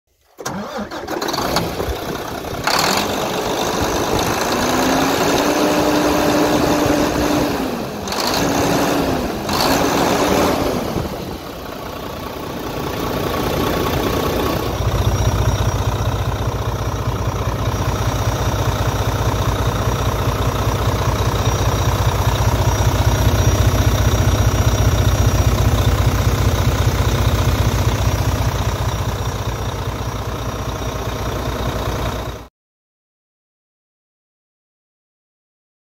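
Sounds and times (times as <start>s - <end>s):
diesel engine idling: 0.4s - 32.5s
truck diesel engine revving: 0.4s - 32.5s.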